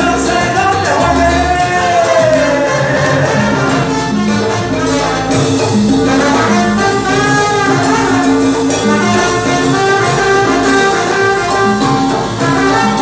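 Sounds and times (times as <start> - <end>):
latin band playing: 0.0 - 13.0
trumpets playing melody: 0.0 - 13.0.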